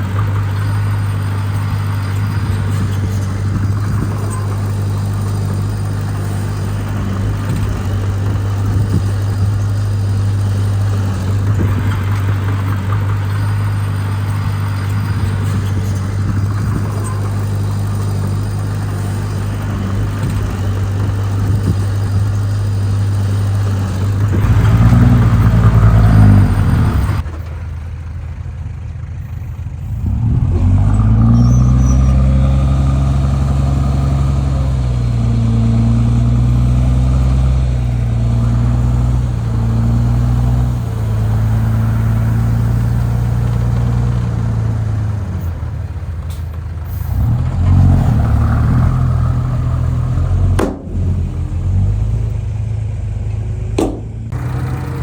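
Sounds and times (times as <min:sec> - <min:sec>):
heavy diesel engine revving: 0:00.0 - 0:55.0.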